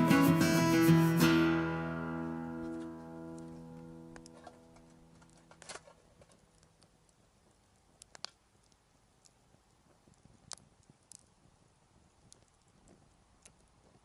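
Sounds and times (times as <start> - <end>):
campfire crackling and popping: 2.6 - 14.0.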